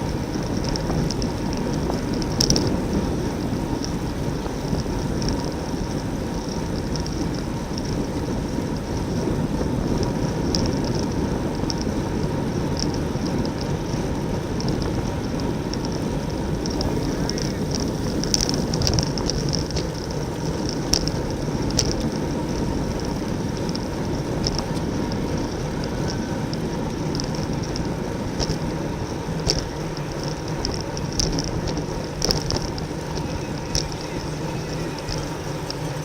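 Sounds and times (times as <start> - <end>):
bicycle clicks and ticks: 0.0 - 36.0
wind on microphone: 0.0 - 36.0.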